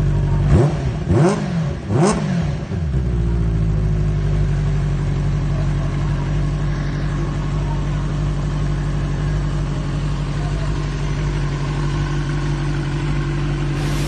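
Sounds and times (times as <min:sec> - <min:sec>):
motorcycle engine idling: 0:00.0 - 0:01.1, 0:01.7 - 0:14.0.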